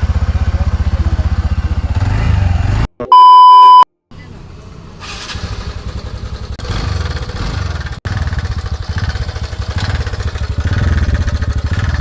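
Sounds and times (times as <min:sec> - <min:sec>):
scooter engine idling: 0:00.0 - 0:02.2, 0:04.4 - 0:12.0.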